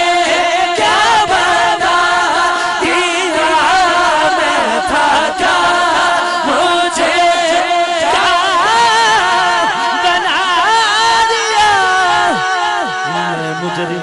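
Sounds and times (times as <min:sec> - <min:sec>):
man singing into microphone: 0:00.0 - 0:14.0
men's chorus vocal drone: 0:00.0 - 0:14.0.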